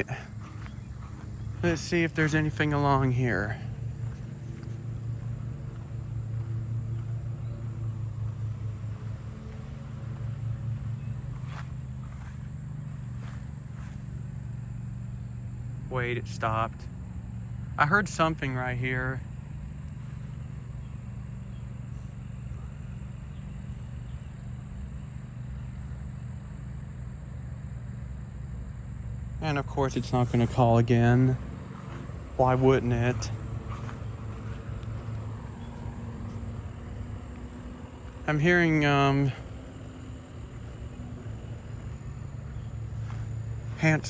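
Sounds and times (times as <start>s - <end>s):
distant traffic rumble: 0.0s - 44.0s
insect trill: 0.0s - 44.0s
steady low hum: 0.0s - 44.0s.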